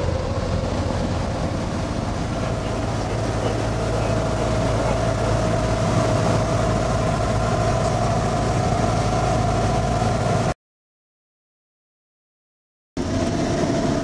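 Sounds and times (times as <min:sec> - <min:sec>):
aircraft engine droning: 0:00.0 - 0:10.6, 0:13.0 - 0:14.0.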